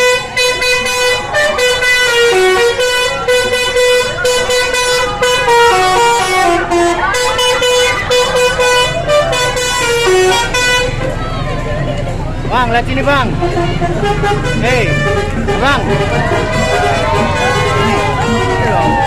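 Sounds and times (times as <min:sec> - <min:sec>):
musical bus horn playing tune: 0:00.0 - 0:11.4, 0:13.3 - 0:19.0.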